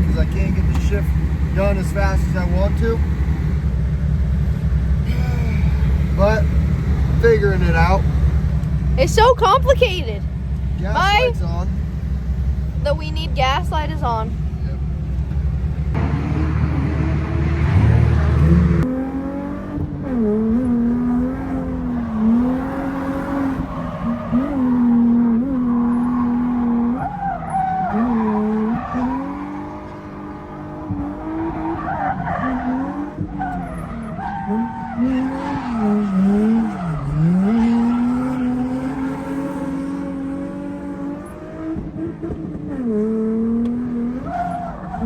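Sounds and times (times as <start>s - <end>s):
car engine revving: 0.0s - 45.0s
tyres skidding: 0.0s - 45.0s.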